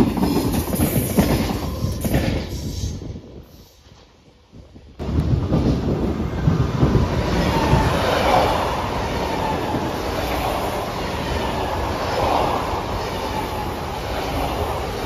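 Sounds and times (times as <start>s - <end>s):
train wheels rumbling on rail: 0.0s - 3.9s, 4.6s - 15.0s.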